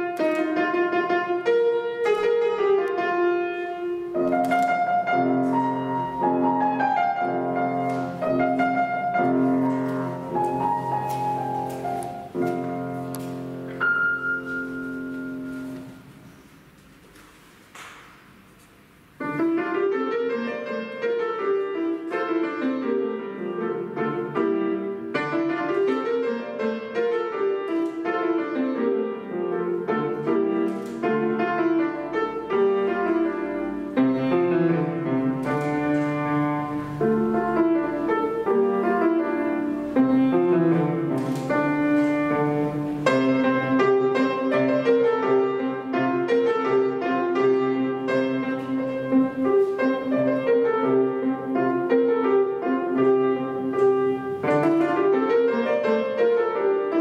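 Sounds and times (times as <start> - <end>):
classical piano piece: 0.0 - 57.0.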